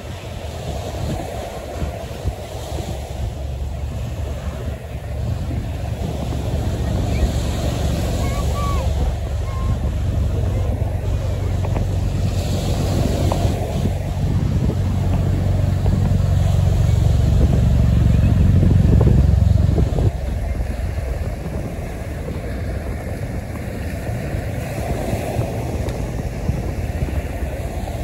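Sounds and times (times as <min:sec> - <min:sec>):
aircraft rotors droning: 0:00.0 - 0:28.0
surf: 0:00.0 - 0:28.0
wind: 0:00.0 - 0:28.0.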